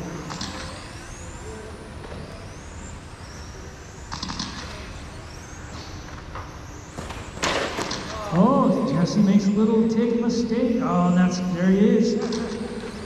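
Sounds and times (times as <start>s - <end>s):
low hum of hall: 0.0s - 13.0s
rc car motors whining: 0.0s - 13.0s.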